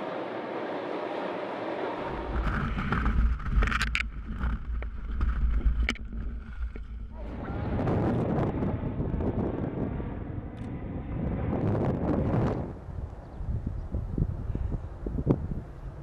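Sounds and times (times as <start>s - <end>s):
aircraft engines and slipstream: 0.0s - 16.0s
wind buffeting microphone: 1.8s - 16.0s.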